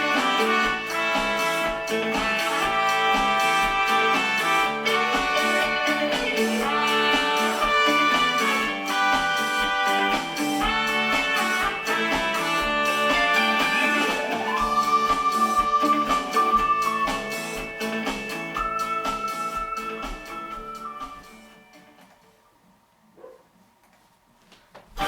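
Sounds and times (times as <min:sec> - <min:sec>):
instrumental band music: 0:00.0 - 0:21.6.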